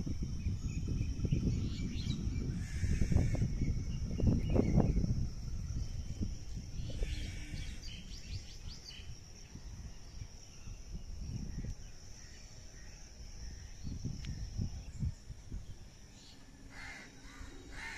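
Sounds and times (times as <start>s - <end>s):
wind rumble on microphone: 0.0s - 17.9s.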